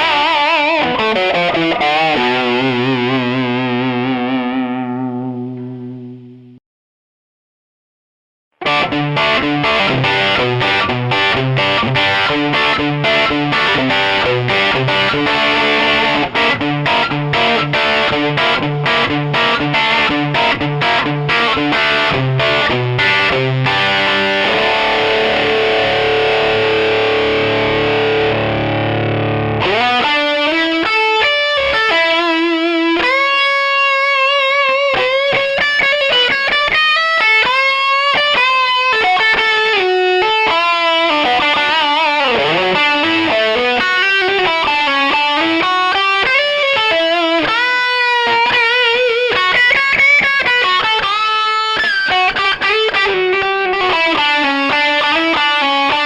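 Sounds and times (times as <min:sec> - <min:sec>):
distorted electric guitar: 0:00.0 - 0:06.6, 0:08.6 - 0:56.0.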